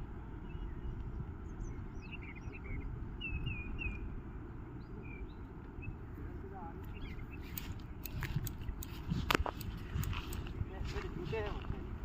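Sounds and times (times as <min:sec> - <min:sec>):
low outdoor rumble: 0:00.0 - 0:12.0
bird chirping: 0:00.4 - 0:11.5.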